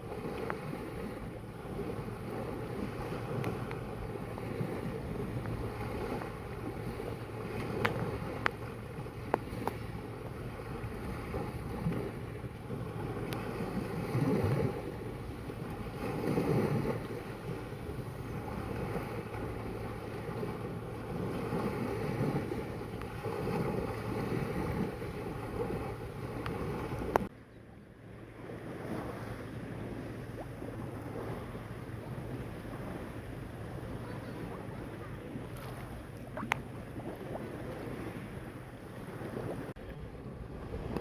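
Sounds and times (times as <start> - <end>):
wind on microphone: 0.0 - 27.3, 28.0 - 41.0
sea water lapping: 0.0 - 41.0.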